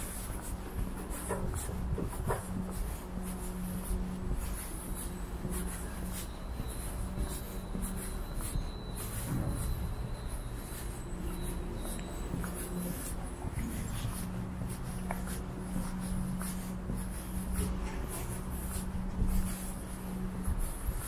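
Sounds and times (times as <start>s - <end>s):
footsteps on asphalt: 0.0s - 21.0s.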